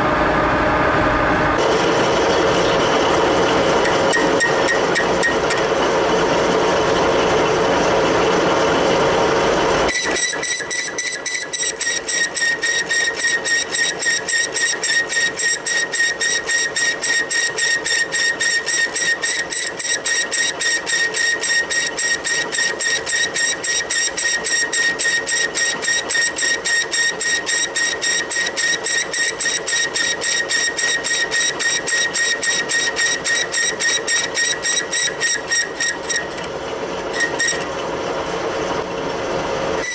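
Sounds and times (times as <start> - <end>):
dense machine noise: 0.0 - 39.9
pulsing high machine whine: 0.0 - 39.9.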